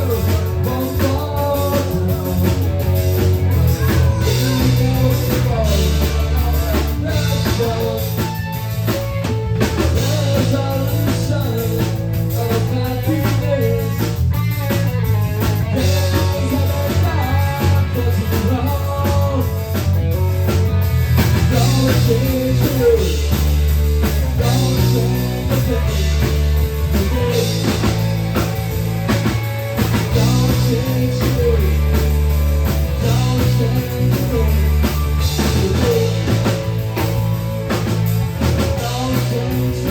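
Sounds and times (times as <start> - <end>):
person singing: 0.0 - 19.9, 21.4 - 28.8, 29.8 - 37.3, 38.3 - 39.9
rock song with drums and guitar: 0.0 - 39.9.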